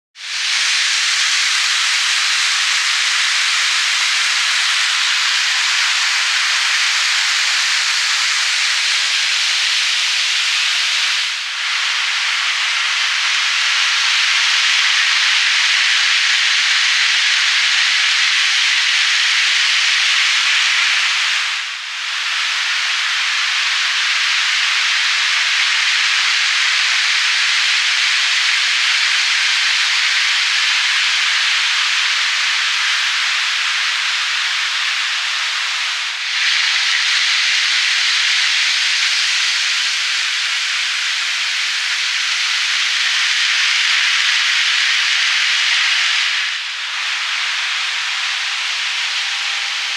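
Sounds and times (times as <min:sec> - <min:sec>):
model train rushing hiss: 0:00.2 - 0:49.9.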